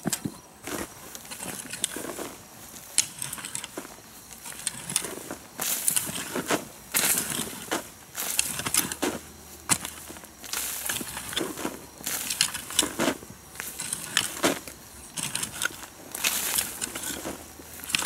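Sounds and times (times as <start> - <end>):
tool crunching and scraping: 0.0 - 18.0.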